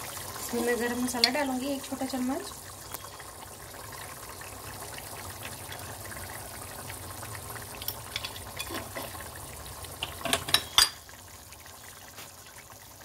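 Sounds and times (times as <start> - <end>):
gravy bubbling in a pan: 0.0 - 13.0.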